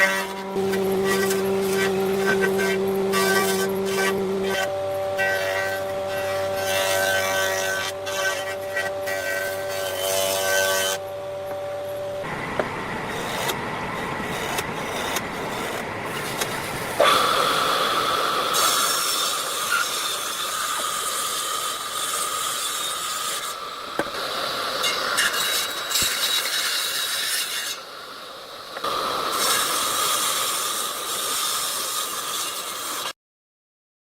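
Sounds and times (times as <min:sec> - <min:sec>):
machine whining and rasping: 0:00.0 - 0:27.8.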